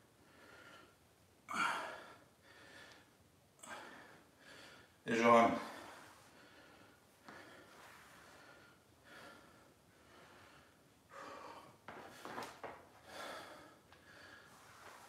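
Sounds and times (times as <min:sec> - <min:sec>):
man breathing heavily: 0:00.2 - 0:05.0, 0:05.6 - 0:15.0.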